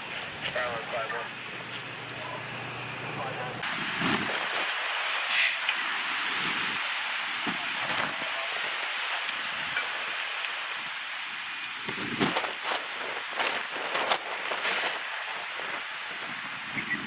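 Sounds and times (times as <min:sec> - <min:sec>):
wind: 0:00.0 - 0:17.0
rain hissing: 0:01.3 - 0:17.0.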